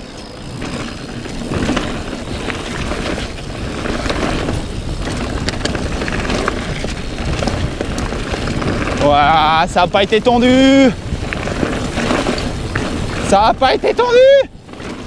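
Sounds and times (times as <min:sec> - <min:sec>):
mountain bike rattling: 0:00.0 - 0:15.0
tyre noise: 0:00.0 - 0:15.0
wind rush: 0:00.0 - 0:15.0.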